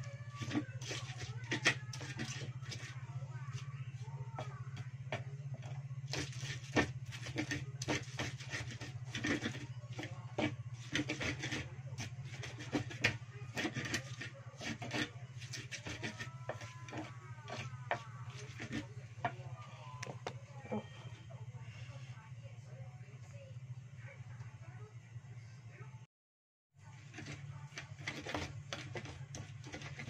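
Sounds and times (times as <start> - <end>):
pestle grinding in mortar: 0.0 - 21.2, 27.0 - 30.0
steady low hum: 0.0 - 26.1.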